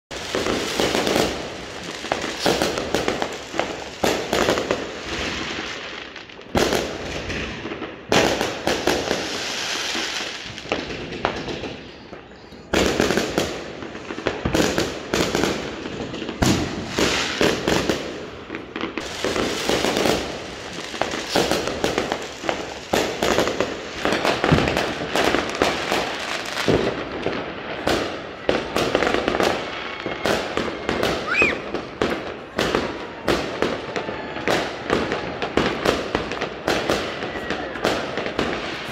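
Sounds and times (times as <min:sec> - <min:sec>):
fireworks bangs and crackling: 0:00.1 - 0:38.9.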